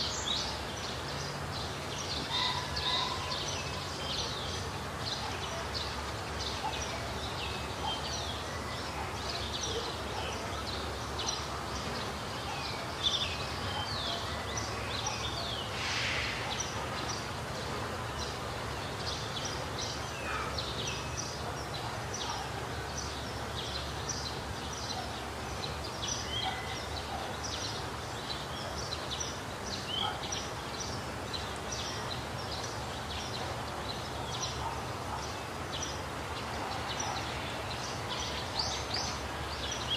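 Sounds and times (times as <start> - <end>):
birds chirping and calling: 0.0 - 17.4, 18.1 - 39.9
low background noise: 0.0 - 39.9.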